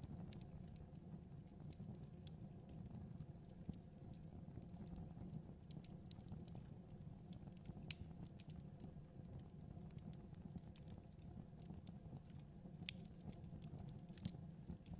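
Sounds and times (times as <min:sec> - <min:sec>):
fire crackling and popping: 0:00.0 - 0:14.9
fire rumbling: 0:00.0 - 0:14.9.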